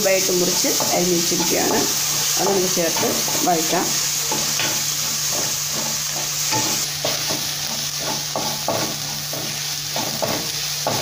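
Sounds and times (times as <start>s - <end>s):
masala sizzling in a pan: 0.0s - 11.0s
utensil stirring and scraping: 0.4s - 11.0s.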